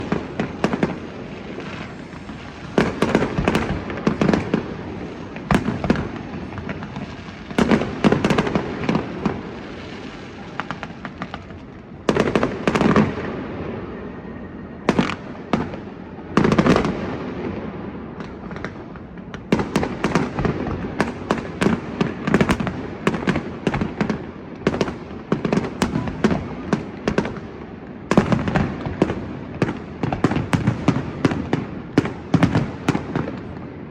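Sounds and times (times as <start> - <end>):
fireworks banging: 0.0 - 14.1, 14.8 - 33.8
fireworks crackling: 0.0 - 33.9.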